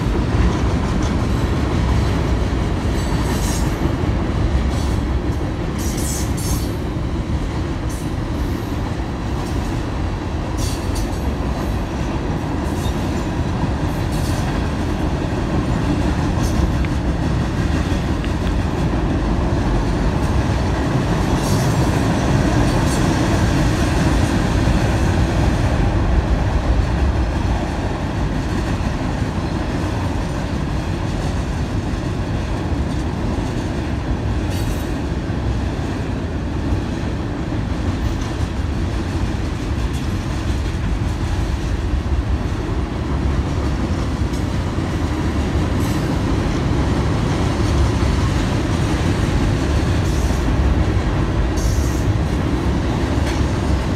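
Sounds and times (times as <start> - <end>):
freight train rumbling over bridge: 0.0 - 53.9
train wheels clicking: 0.0 - 53.9.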